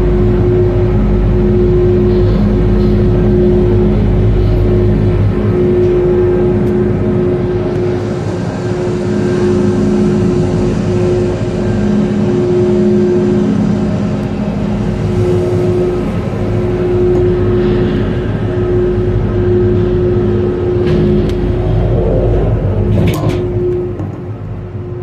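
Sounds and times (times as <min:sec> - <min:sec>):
gondola conveyor mechanical drone: 0:00.0 - 0:25.0
pulsing hum: 0:00.0 - 0:25.0.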